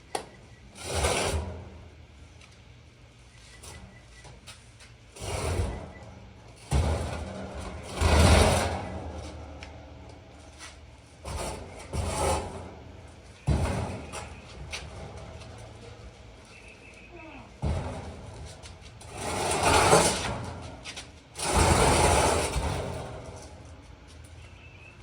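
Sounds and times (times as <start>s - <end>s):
metal stove scraping on concrete: 0.4s - 2.2s, 3.4s - 25.0s.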